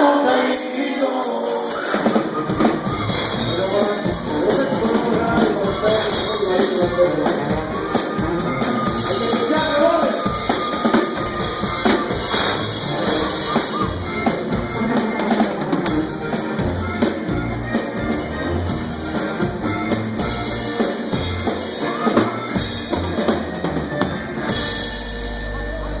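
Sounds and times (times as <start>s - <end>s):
band playing instrumental music: 0.0s - 26.0s
drum kit beat: 0.6s - 26.0s.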